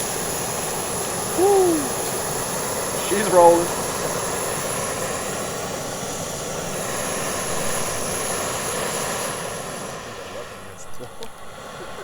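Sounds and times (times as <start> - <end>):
camp stove burner rushing: 0.0 - 12.0.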